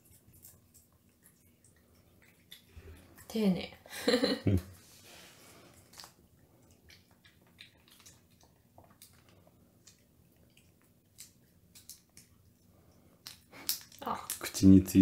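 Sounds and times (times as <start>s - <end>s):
cat chewing crunchily: 0.0s - 3.5s, 5.4s - 14.8s.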